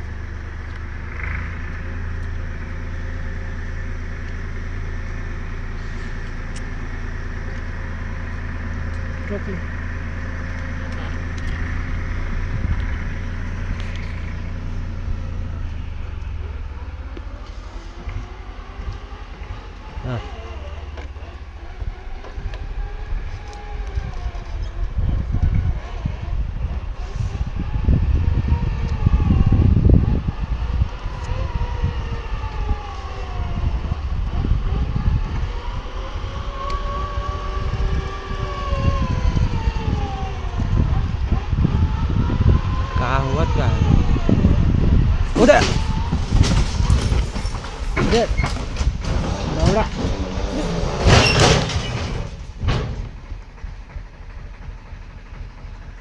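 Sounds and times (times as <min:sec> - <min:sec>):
heavy low rumble: 0:00.0 - 0:56.0
tractor engine running: 0:00.0 - 0:56.0.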